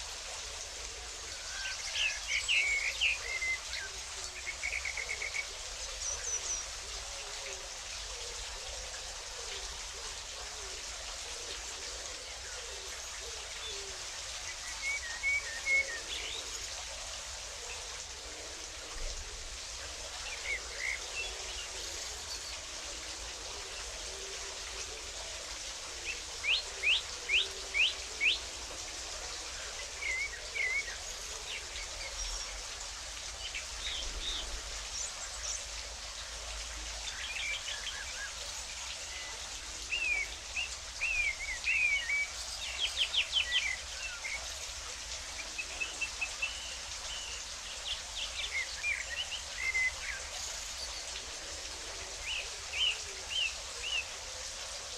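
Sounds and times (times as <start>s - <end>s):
running water hiss: 0.0s - 54.9s
songbirds chirping: 9.2s - 54.9s.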